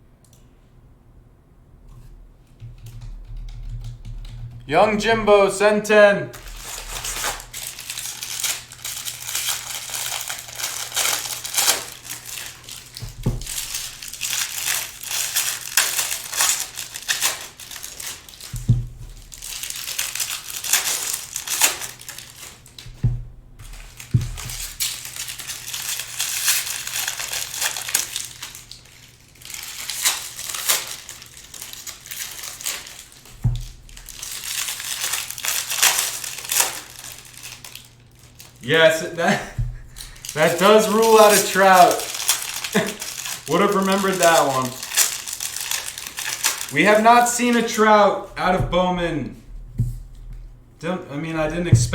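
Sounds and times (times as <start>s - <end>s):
wrappers crinkling and tearing: 5.3s - 23.0s, 23.6s - 49.1s.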